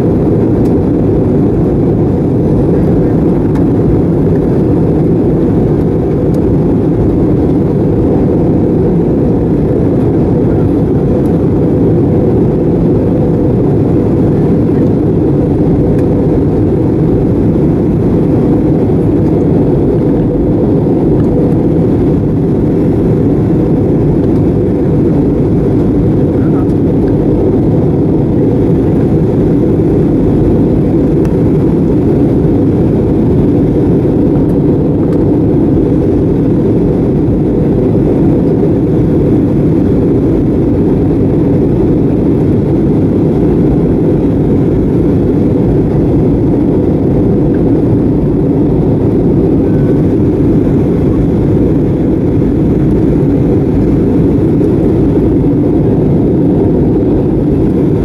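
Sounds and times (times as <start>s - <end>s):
aircraft engines roaring: 0.0s - 58.0s.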